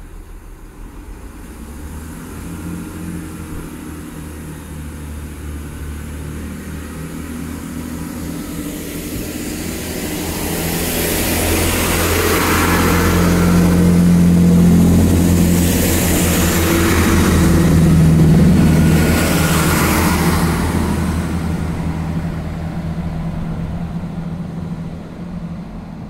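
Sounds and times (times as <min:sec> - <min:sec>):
diesel train engines droning: 0:00.0 - 0:26.0
wheels rushing on rail: 0:00.0 - 0:26.0.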